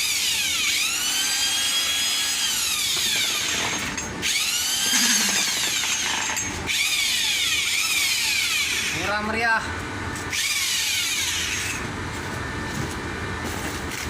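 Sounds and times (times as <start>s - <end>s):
concrete vibrator motor whining: 0.0s - 14.0s.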